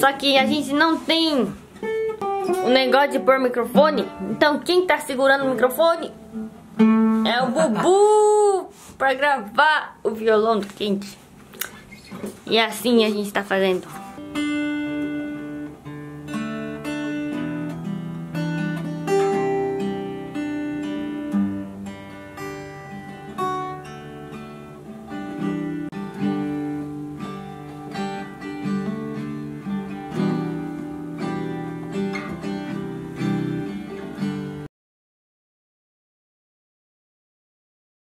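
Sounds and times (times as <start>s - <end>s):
acoustic guitar instrumental: 0.0s - 34.7s.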